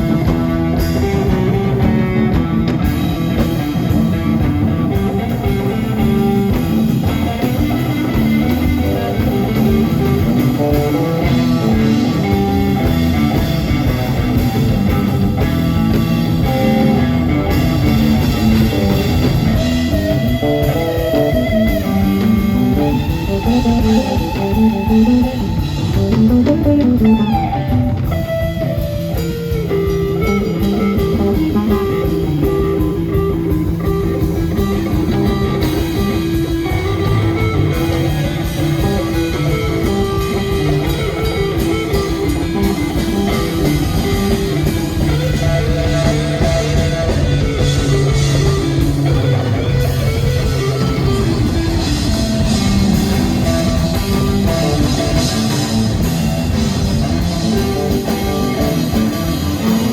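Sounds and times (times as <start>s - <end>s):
bass: 0.0s - 59.9s
drums: 0.0s - 59.9s
electric guitar lead: 0.0s - 59.9s.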